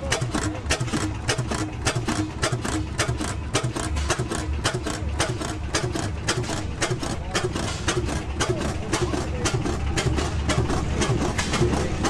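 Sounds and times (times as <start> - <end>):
stationary gas engine running: 0.0 - 12.0.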